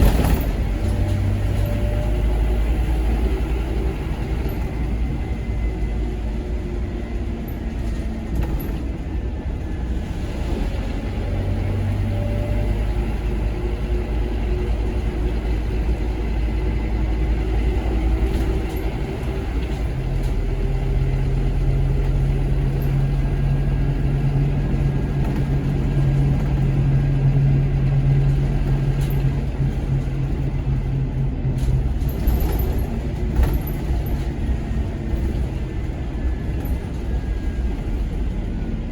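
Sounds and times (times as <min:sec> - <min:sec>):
bus diesel engine rumble: 0:00.0 - 0:38.9.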